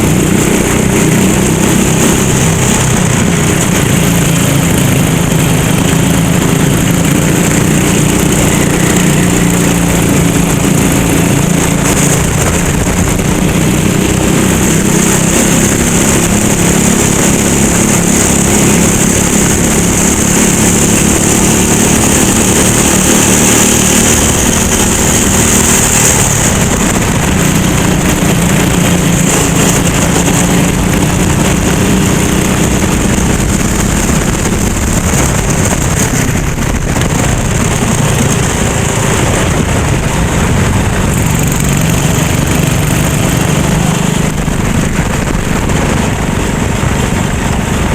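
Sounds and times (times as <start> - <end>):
kart engine running: 0.0 - 47.9
wind and road noise: 0.0 - 47.9.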